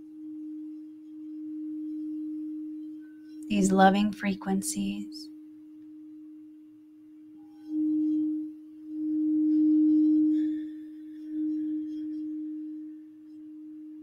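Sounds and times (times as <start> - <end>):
singing bowl sustained tone: 0.0 - 14.0.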